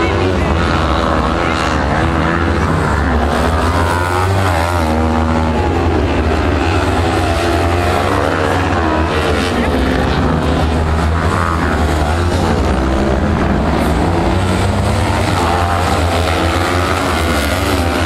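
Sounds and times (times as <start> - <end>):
racing buggy engines: 0.0 - 18.0.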